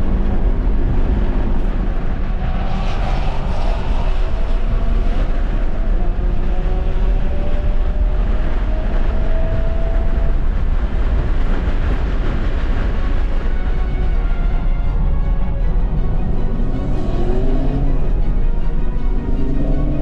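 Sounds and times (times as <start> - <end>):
tyre road and wind noise: 0.0 - 20.0.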